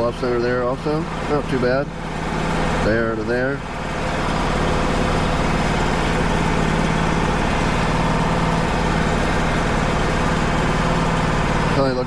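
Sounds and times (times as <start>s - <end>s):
sawmill engine idling: 0.0s - 12.0s.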